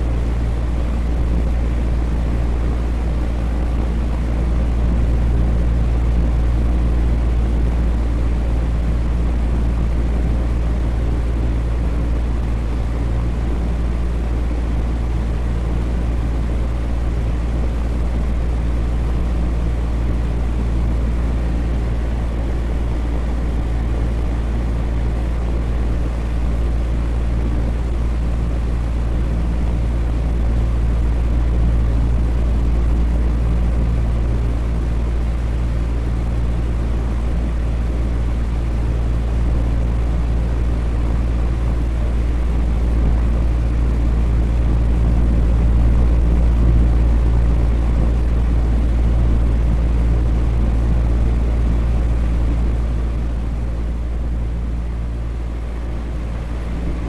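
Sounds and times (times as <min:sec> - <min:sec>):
electric fan air rushing: 0:00.0 - 0:57.0
faint motor hum: 0:00.0 - 0:57.0.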